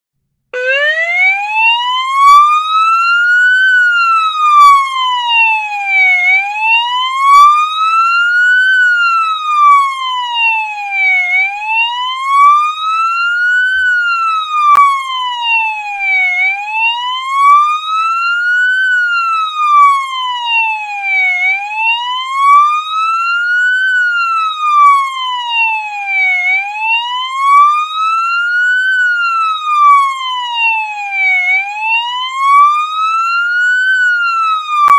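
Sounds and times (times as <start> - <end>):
police siren wailing: 0.5 - 34.9.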